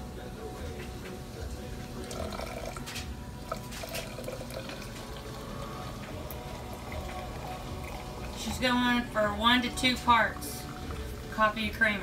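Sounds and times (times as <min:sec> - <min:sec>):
coffee pouring into tumbler: 0:01.8 - 0:12.0.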